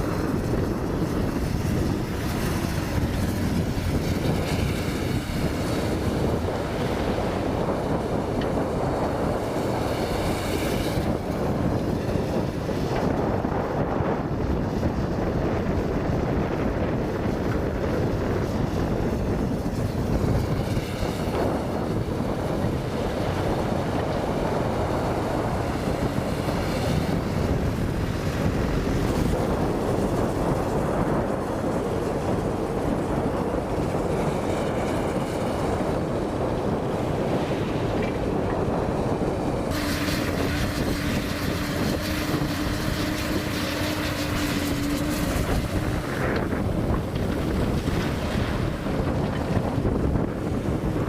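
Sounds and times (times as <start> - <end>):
excavator diesel engine under load: 0.0 - 51.0
wind noise on microphone: 0.0 - 51.0.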